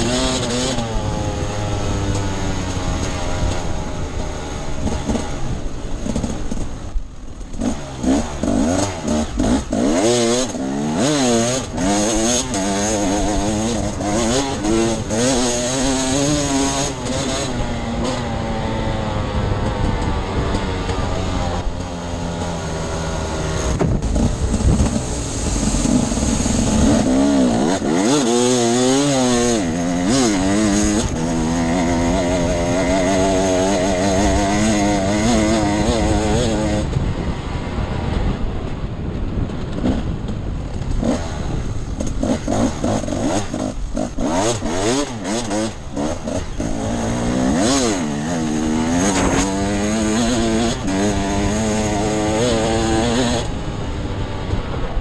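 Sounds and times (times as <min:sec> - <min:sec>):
dirt bike engine revving: 0:00.0 - 0:38.4, 0:39.4 - 0:54.8
steady rushing noise: 0:00.0 - 0:55.0.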